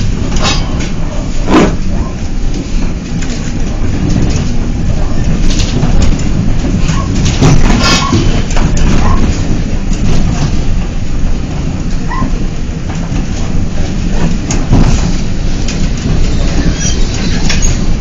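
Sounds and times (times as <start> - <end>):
rattles and knocks over bumps: 0.0 - 18.0
vehicle rumbling on dirt road: 0.0 - 18.0.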